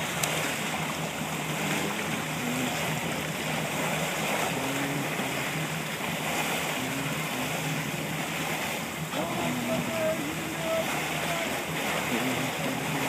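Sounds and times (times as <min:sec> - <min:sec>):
motorboat engine hum: 0:00.0 - 0:13.0
water rushing along hull: 0:00.0 - 0:13.0
wind: 0:00.0 - 0:13.0.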